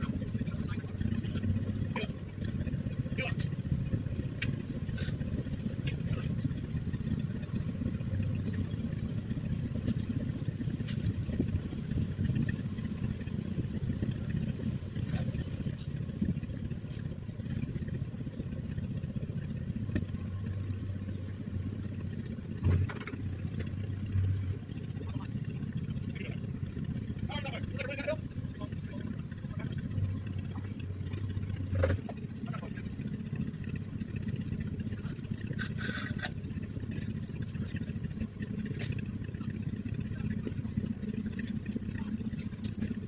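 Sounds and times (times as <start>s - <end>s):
crawler tractor engine running: 0.0s - 43.0s
low hum: 0.0s - 43.0s.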